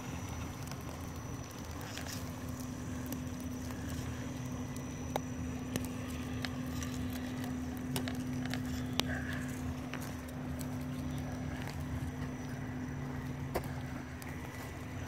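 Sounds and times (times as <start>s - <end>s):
rc truck motor whining: 0.0s - 15.0s
tyres clicking on twigs and stones: 0.0s - 15.0s.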